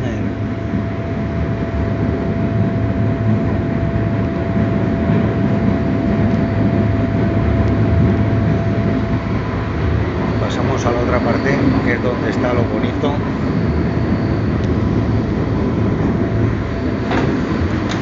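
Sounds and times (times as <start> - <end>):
thin constant whine: 0.0 - 18.0
train wheels rumbling on rail: 0.0 - 18.0.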